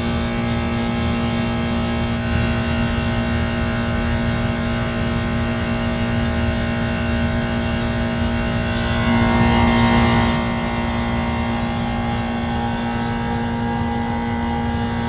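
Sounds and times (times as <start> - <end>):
condensing unit motor hum: 0.0 - 15.0.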